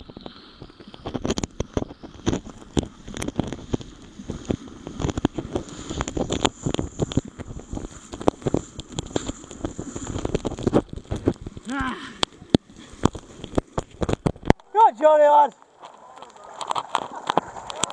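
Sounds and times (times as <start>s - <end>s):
water sloshing and splashing: 0.0s - 17.9s.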